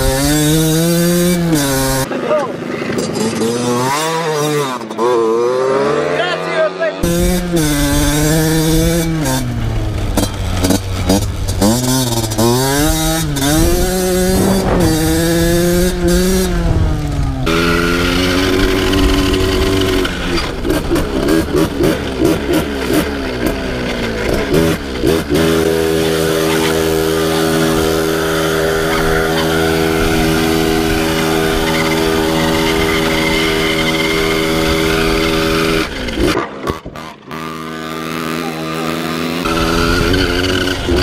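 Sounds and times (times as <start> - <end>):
two-stroke motocross engine revving: 0.0 - 41.0.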